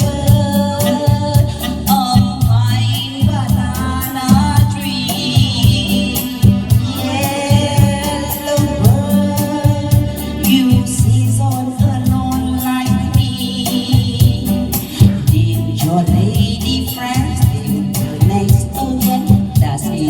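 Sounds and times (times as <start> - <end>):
band with beat and bass: 0.0 - 20.0
person singing with vibrato: 0.0 - 20.0.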